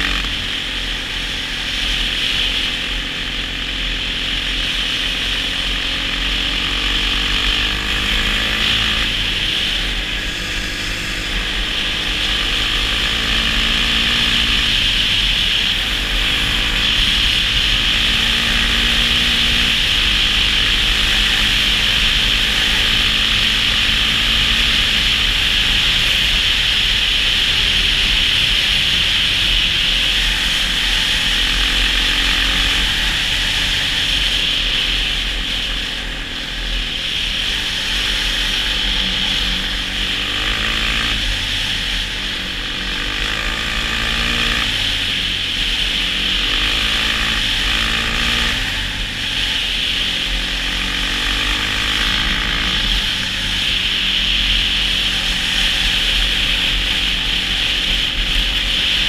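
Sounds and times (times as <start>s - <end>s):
quad bike engine running: 0.0s - 59.0s
wind and tyres on snowy ice: 0.0s - 59.0s.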